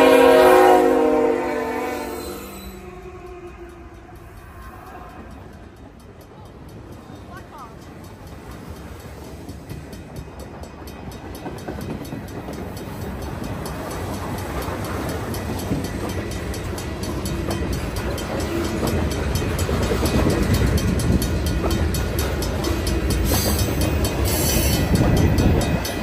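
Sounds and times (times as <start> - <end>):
train wheels rumbling over rails: 0.0 - 26.0.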